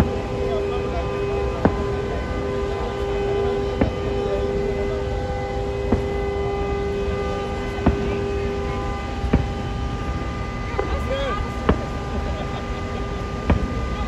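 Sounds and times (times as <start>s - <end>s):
continuous droning tone: 0.0s - 14.0s
fireworks bangs: 0.0s - 14.0s
steady rumble: 0.0s - 14.0s.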